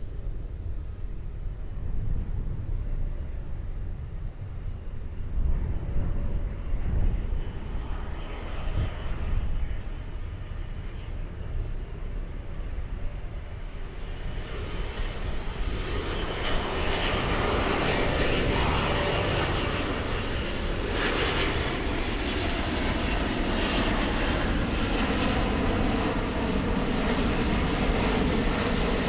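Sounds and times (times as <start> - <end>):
jet airliner roar overhead: 0.0 - 29.0.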